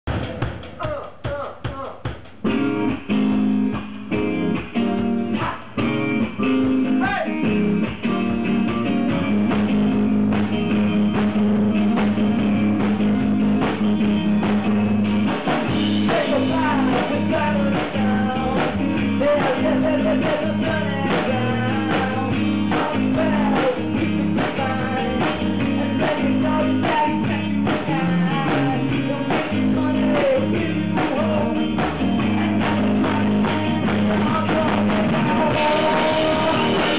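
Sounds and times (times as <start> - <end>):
drum kit: 0.0 - 36.9
rock band playing: 0.0 - 36.9
electric guitar: 2.3 - 36.9.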